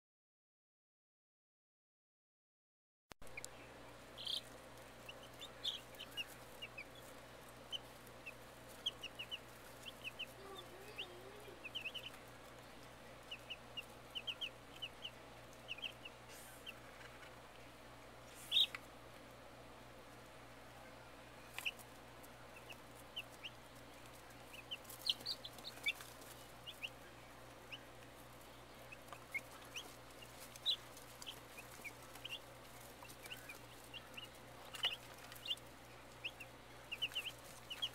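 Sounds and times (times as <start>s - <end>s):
baby chicks peeping: 3.2s - 37.9s
faint steady hum: 3.2s - 37.9s.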